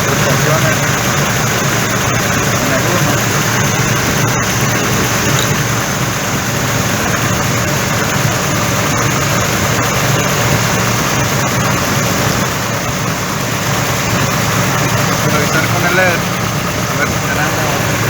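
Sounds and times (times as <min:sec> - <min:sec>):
engine idling unevenly: 0:00.0 - 0:18.0.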